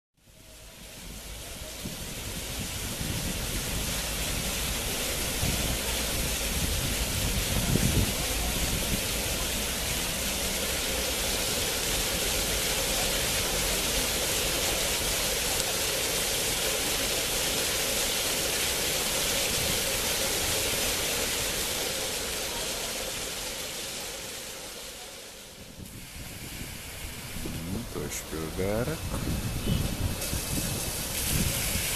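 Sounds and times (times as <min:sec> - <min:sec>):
fountain water splashing: 0:00.2 - 0:31.9.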